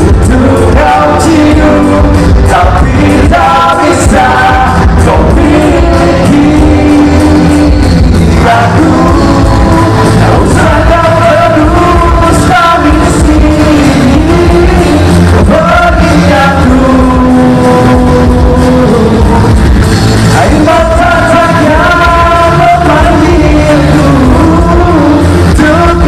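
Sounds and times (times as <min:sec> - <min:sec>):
backing music with heavy bass: 0:00.0 - 0:26.0
men singing into microphones: 0:00.0 - 0:26.0.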